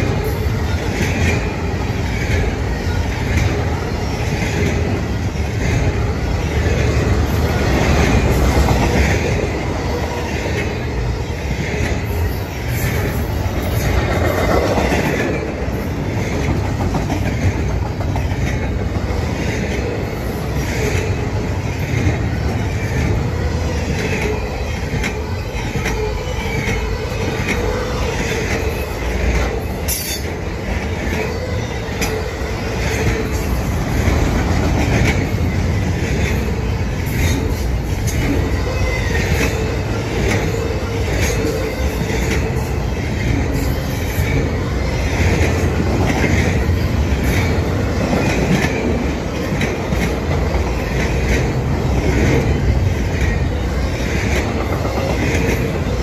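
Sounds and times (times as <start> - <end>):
wheels clickety-clack: 0.0 - 10.9, 11.5 - 56.0
freight train wheels rumbling: 0.0 - 56.0.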